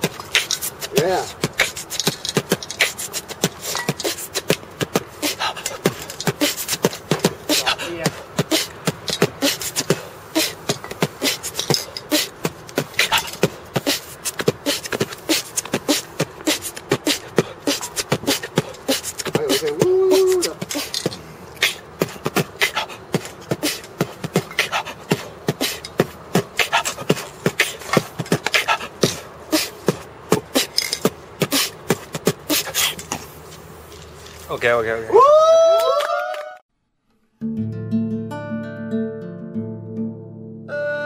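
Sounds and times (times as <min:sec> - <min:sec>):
man beatboxing: 0:00.0 - 0:33.2.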